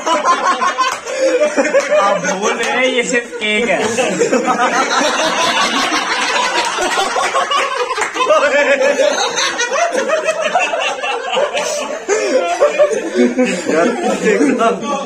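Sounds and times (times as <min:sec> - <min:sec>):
men laughing: 0:00.0 - 0:15.0.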